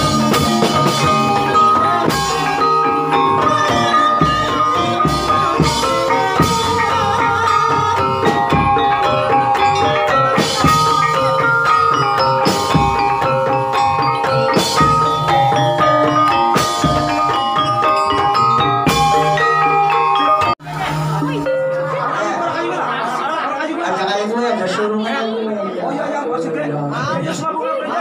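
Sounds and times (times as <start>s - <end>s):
drumming: 0.0s - 23.2s
gamelan mallet instruments: 0.0s - 24.2s.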